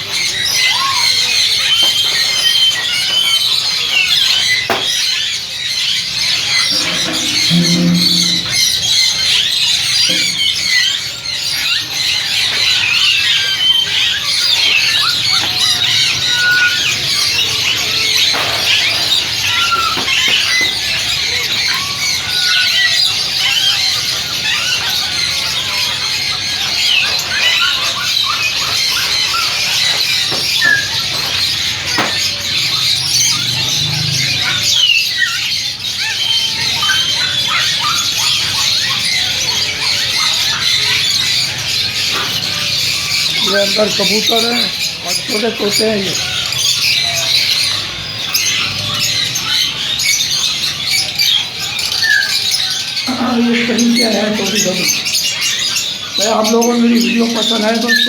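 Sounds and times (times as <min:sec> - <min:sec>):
parrots chirping and chattering: 0:00.0 - 0:58.0.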